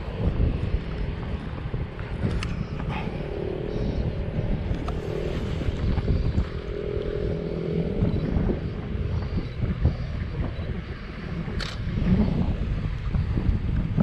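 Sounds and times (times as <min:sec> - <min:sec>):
faint engine drone: 0:00.0 - 0:14.0
wind buffeting microphone: 0:00.0 - 0:14.0.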